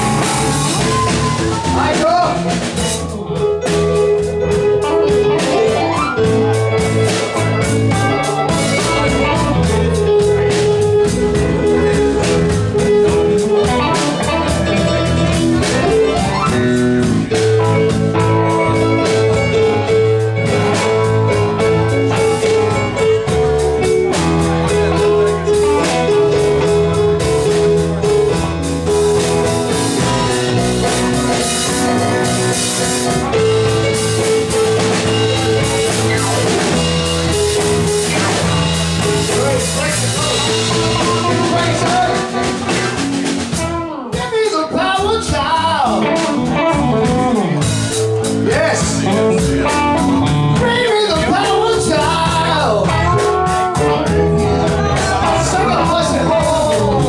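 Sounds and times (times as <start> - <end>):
electric keyboard: 0.0 - 57.0
live blues band: 0.0 - 57.0.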